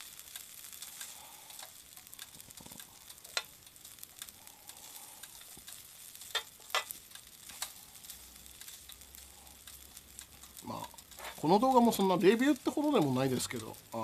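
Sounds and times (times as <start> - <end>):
rice sizzling in butter: 0.0 - 14.0.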